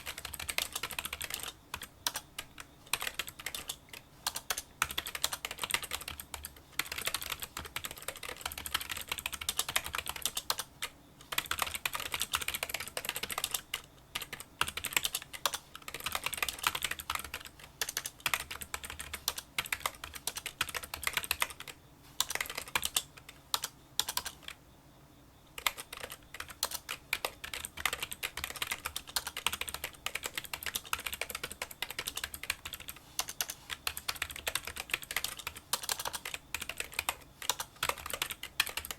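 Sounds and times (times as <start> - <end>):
light keyboard typing clicks: 0.0 - 24.6, 25.6 - 38.9.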